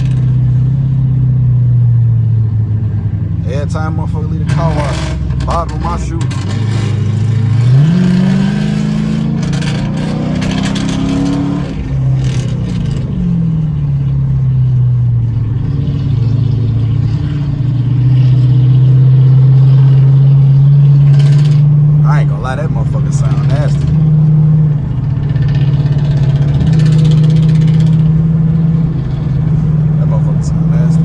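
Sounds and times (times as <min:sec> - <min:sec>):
car exhaust accelerating: 0:00.0 - 0:31.0.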